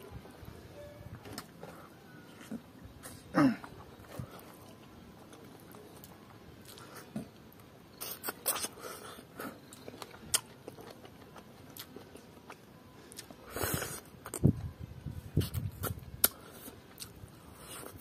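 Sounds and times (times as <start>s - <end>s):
person chewing: 1.4s - 14.6s, 15.4s - 18.0s.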